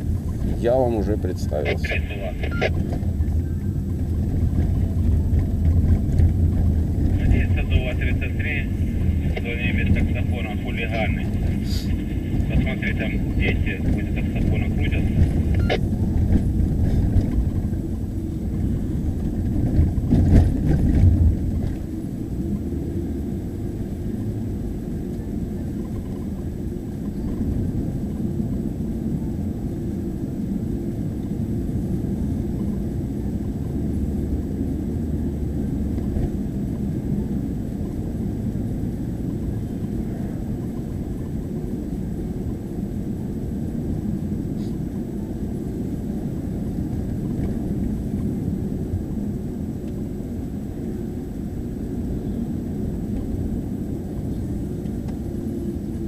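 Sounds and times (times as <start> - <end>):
car cabin low rumble: 0.0 - 56.0.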